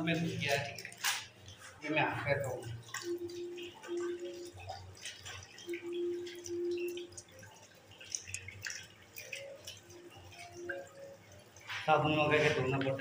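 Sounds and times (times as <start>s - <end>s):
tap water splashing and dripping: 0.0s - 13.0s.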